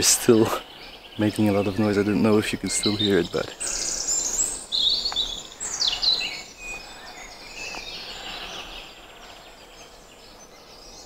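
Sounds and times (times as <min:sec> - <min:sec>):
background hiss: 0:00.0 - 0:11.0
songbirds singing: 0:00.0 - 0:11.0.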